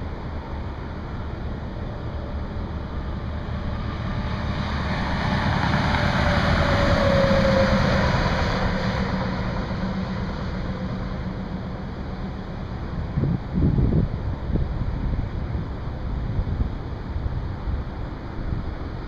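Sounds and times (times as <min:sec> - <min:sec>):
steady low hum and rushing: 0:00.0 - 0:19.0
vehicle passing on highway: 0:00.0 - 0:19.0.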